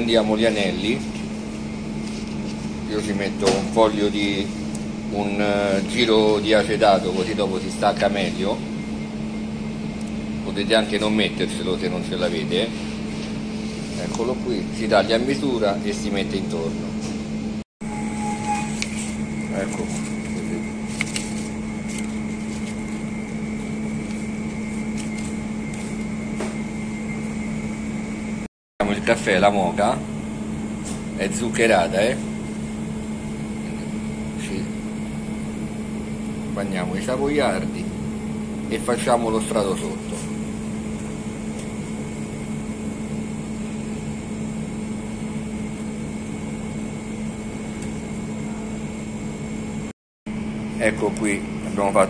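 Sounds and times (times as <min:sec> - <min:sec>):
machine hum: 0:00.0 - 0:52.0.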